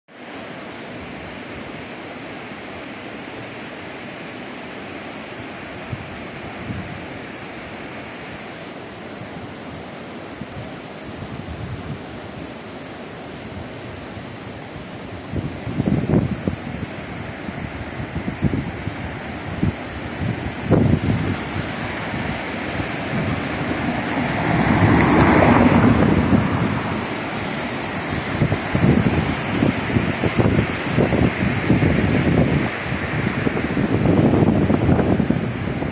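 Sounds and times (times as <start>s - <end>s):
sea waves and surf: 0.1s - 35.9s
wind buffeting microphone: 5.6s - 7.7s, 8.3s - 35.9s.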